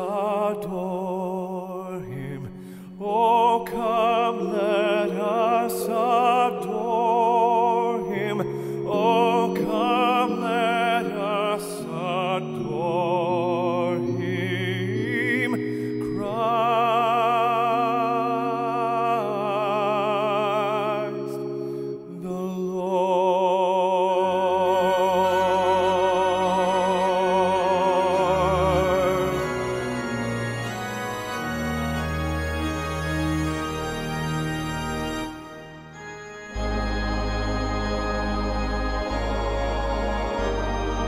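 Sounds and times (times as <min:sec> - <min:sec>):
slow classical-style music: 0:00.0 - 0:41.0.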